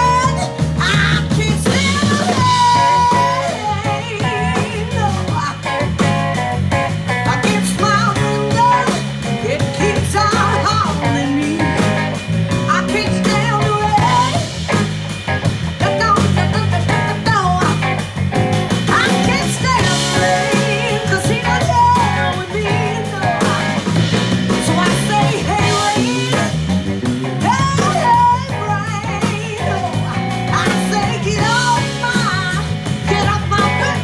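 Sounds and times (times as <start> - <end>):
live band playing: 0.0 - 34.0.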